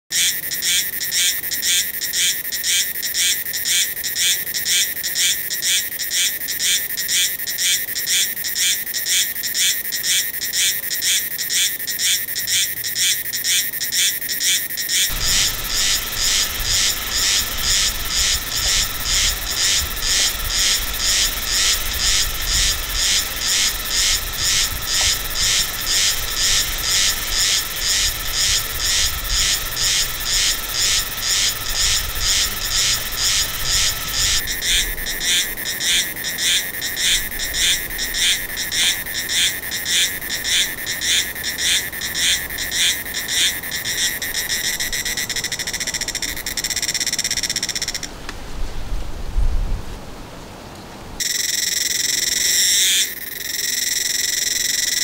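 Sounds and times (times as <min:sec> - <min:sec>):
cicada quacking call: 0:00.1 - 0:48.2, 0:51.2 - 0:55.0.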